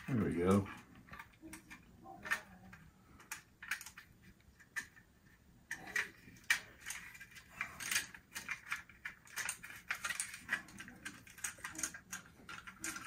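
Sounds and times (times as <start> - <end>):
small plastic clicks and rattles: 0.0 - 13.0.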